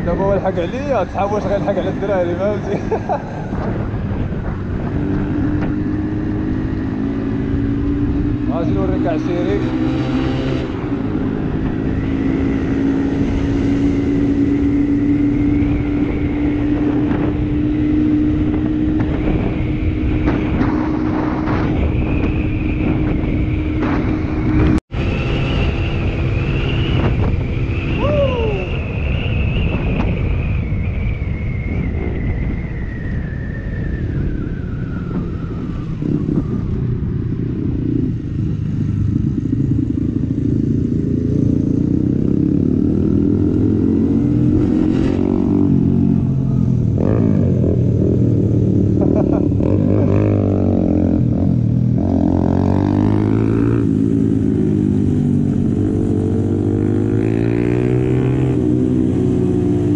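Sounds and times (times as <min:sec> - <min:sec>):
motorcycle engine cruising: 0:00.0 - 0:59.9
wind noise: 0:00.0 - 0:59.9.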